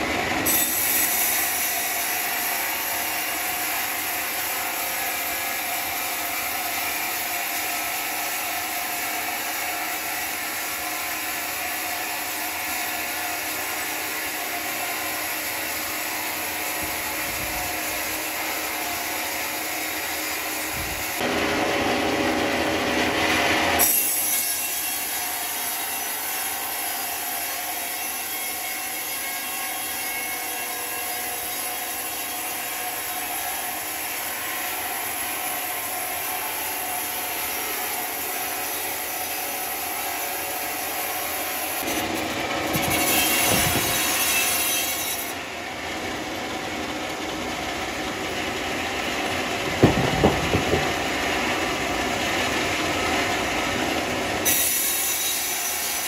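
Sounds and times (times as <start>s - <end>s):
saw cutting timber: 0.0s - 56.0s.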